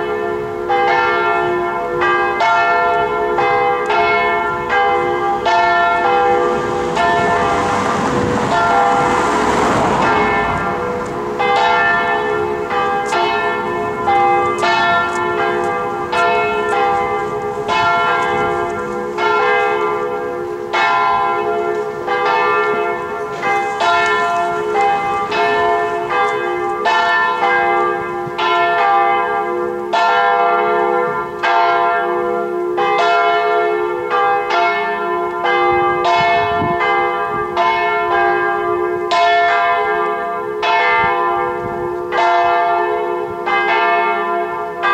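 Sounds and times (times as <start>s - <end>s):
church bells pealing: 0.0s - 44.9s.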